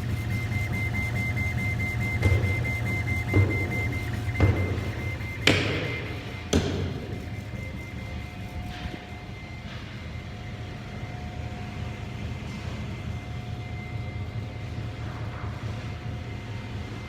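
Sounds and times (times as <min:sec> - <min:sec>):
laser cutting machine hum: 0:00.0 - 0:17.0
thin steady whine: 0:00.0 - 0:17.0.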